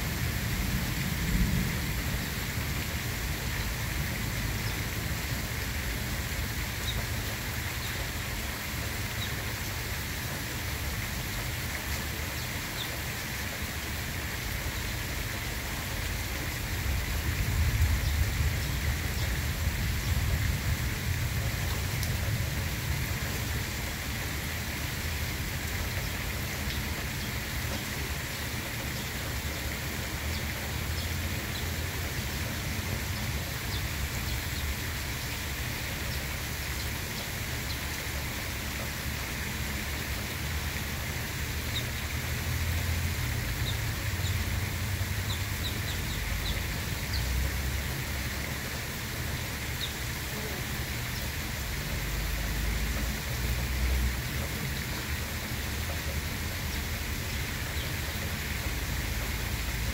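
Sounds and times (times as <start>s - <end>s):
light rain hissing: 0.0s - 59.9s.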